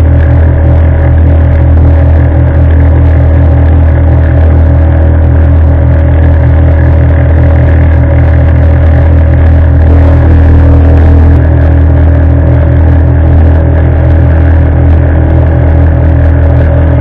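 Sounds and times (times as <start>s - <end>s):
motorboat engine humming: 0.0s - 17.0s.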